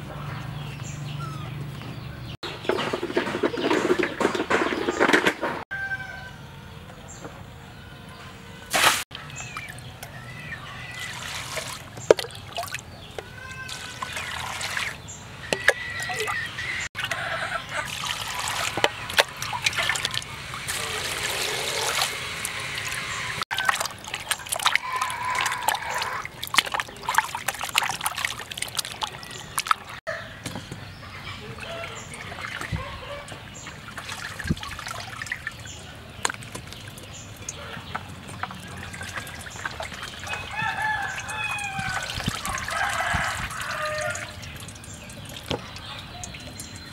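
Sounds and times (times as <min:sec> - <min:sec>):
water sloshing and trickling: 0:08.7 - 0:46.9.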